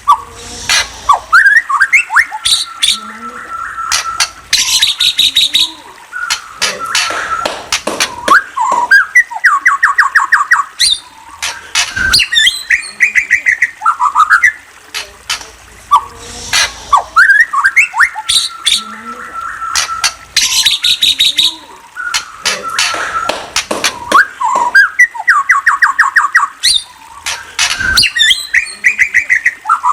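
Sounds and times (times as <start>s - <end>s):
bird chirping and chattering: 0.0s - 29.9s.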